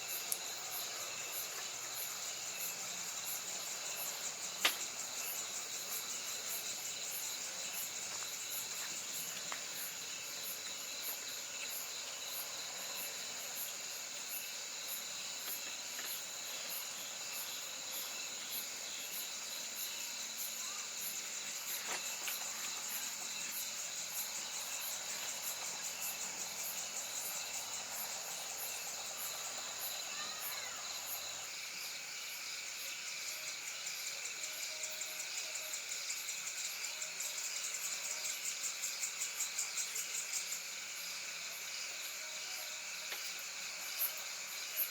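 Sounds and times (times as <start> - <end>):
insects chirping: 0.0 - 44.9
very high repeating insect call: 0.0 - 44.9.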